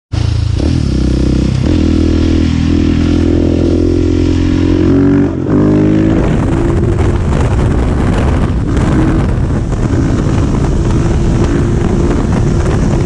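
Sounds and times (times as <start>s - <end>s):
motorcycle engine revving: 0.2s - 13.0s.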